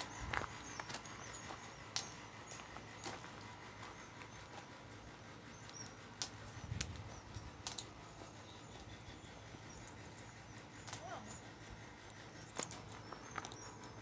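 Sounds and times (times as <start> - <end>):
low steady background noise: 0.0 - 14.0.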